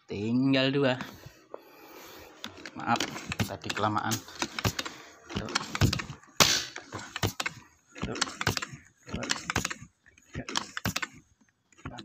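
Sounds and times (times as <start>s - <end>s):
air rifle handling clicks: 2.3s - 12.0s.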